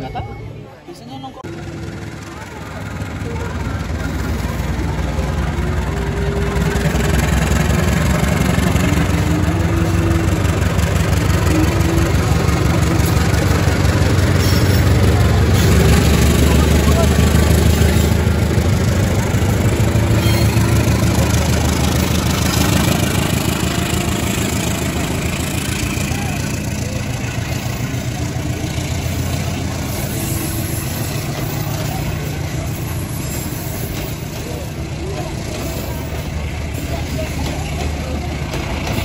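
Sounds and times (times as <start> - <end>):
locomotive engine drone: 0.0 - 39.0
train coaches rolling by: 0.0 - 39.0.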